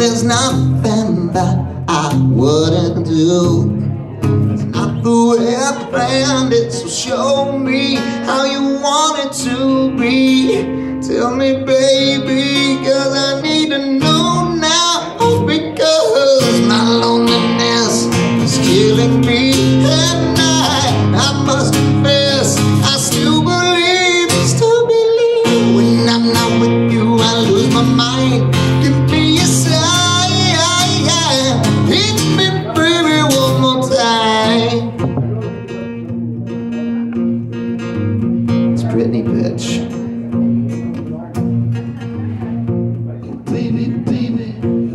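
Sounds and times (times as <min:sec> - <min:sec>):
man singing: 0:00.0 - 0:36.1, 0:38.8 - 0:41.4, 0:42.3 - 0:44.9
strummed acoustic guitar: 0:00.0 - 0:44.9.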